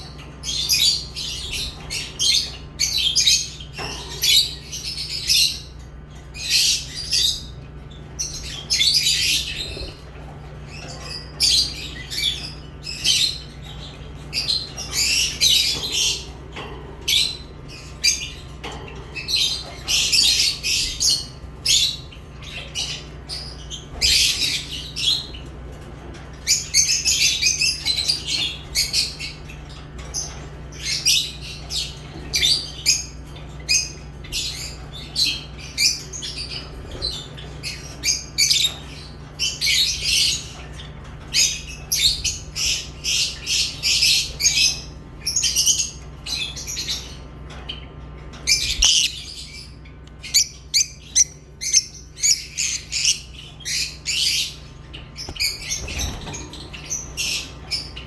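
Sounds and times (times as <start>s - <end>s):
birds chirping and squawking: 0.0s - 58.0s
steady low hum: 0.0s - 58.0s.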